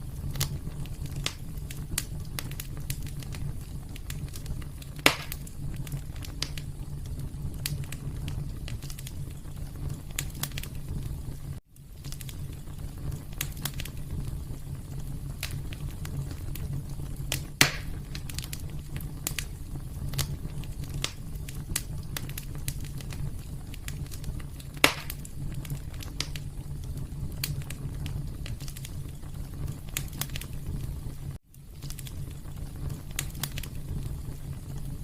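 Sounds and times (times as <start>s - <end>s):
loud fire pops: 0.0s - 35.0s
wood fire crackling: 0.0s - 35.0s.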